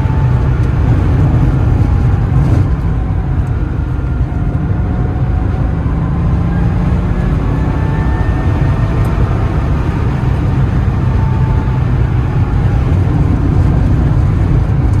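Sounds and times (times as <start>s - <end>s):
car engine running while driving: 0.0s - 15.0s.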